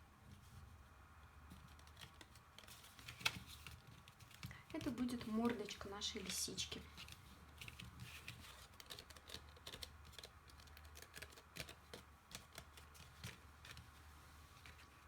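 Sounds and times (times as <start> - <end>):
paper rustling and tapping: 1.5 - 14.0, 14.6 - 15.0.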